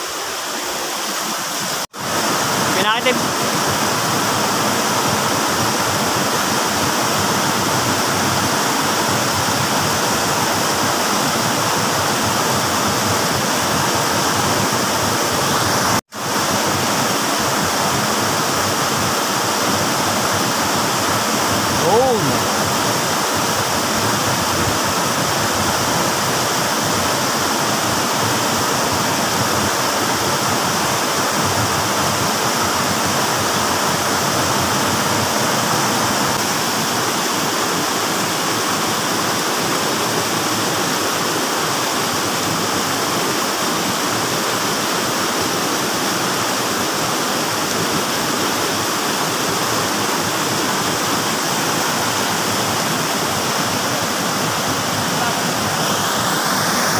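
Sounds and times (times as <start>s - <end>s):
water rushing over boulders: 0.0s - 56.9s.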